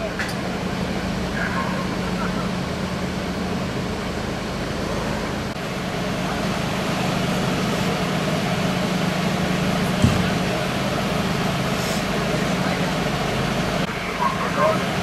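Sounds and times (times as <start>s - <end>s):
fire engines droning: 0.0s - 15.0s.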